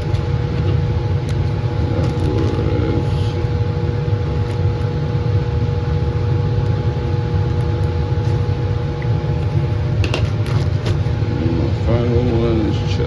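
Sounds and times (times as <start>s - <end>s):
blower fan rush of air: 0.0s - 13.0s
faint steady hums: 0.0s - 13.0s.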